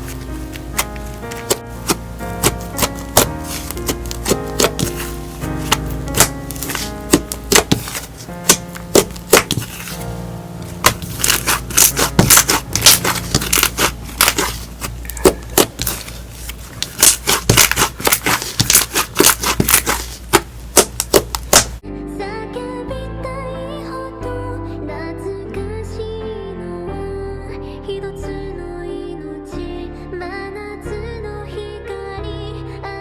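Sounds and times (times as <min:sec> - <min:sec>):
background music: 0:00.0 - 0:16.2, 0:21.8 - 0:33.0.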